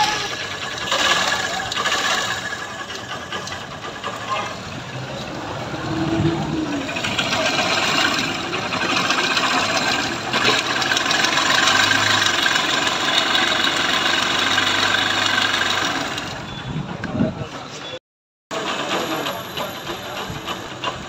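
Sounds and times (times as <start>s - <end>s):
engine with rapid mechanical ticking: 0.0s - 17.6s, 18.5s - 21.0s.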